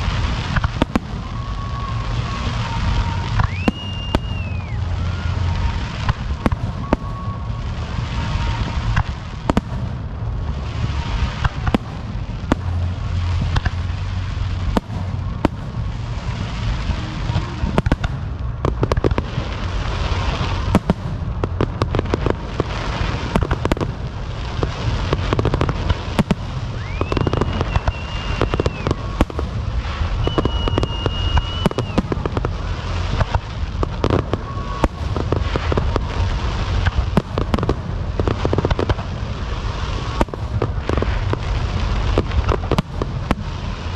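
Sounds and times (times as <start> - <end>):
fireworks booming and crackling: 0.0 - 43.9
low rumble: 0.0 - 43.9
whistling fireworks: 0.0 - 43.9.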